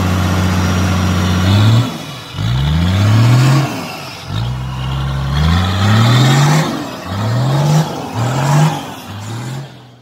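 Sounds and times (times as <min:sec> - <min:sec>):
engine revving hard: 0:00.0 - 0:10.0.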